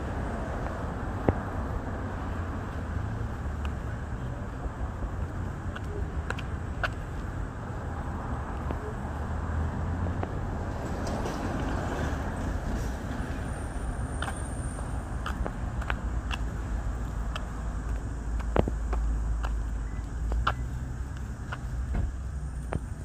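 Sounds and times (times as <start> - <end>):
car driving slowly: 0.0 - 23.0
low traffic rumble: 0.0 - 23.0.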